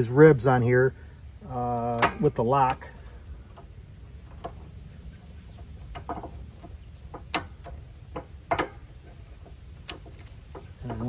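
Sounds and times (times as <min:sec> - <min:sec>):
metal lock clicks and knocks: 0:01.9 - 0:11.0.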